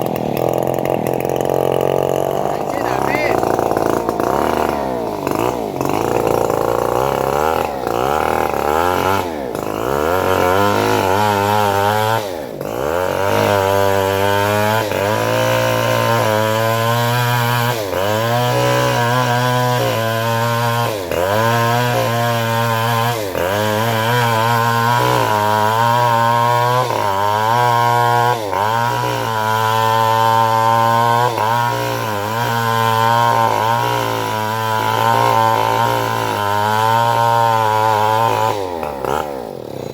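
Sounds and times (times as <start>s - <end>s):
bandsaw cutting through log: 0.0s - 39.9s
sawmill engine running: 0.0s - 39.9s.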